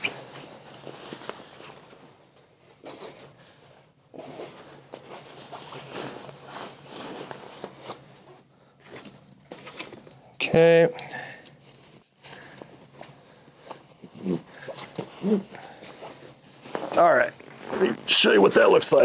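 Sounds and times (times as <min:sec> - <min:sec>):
nylon rasps and rustles: 0:00.0 - 0:10.0, 0:11.6 - 0:19.0.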